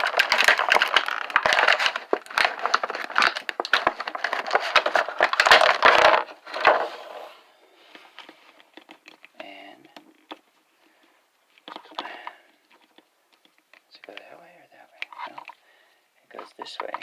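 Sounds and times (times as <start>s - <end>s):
plastic crinkling and clicking: 0.0s - 6.8s, 7.9s - 14.3s, 16.3s - 17.0s.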